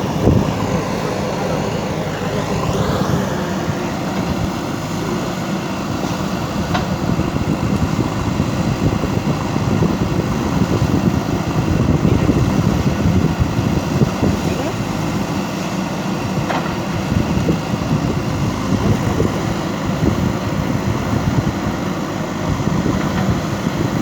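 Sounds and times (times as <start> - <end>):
backhoe diesel engine running: 0.0 - 24.0.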